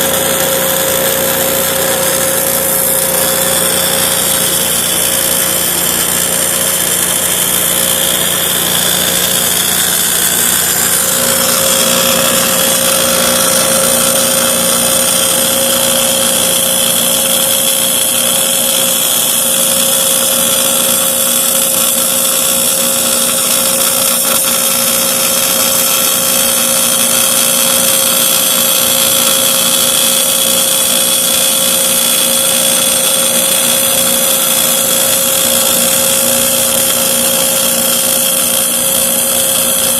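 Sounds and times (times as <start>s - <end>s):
boring machine motor whining: 0.0s - 39.9s.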